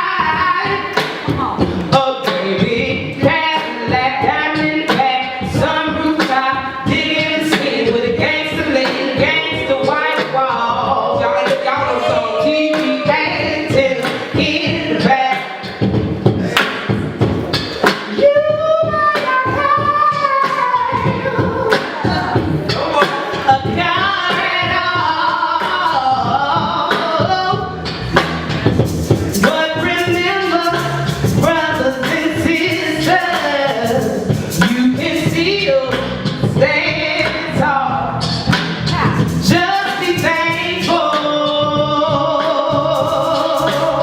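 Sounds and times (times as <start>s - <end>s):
woman singing: 0.0s - 15.8s, 18.2s - 27.7s, 29.4s - 38.2s, 38.9s - 44.0s.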